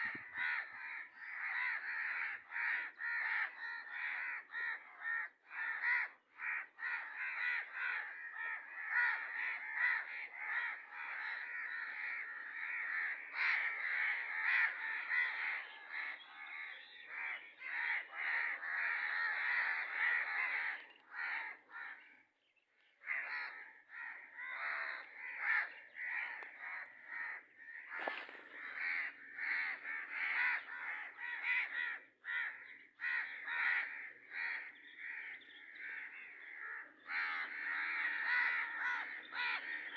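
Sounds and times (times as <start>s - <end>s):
birds cawing: 0.0s - 39.9s.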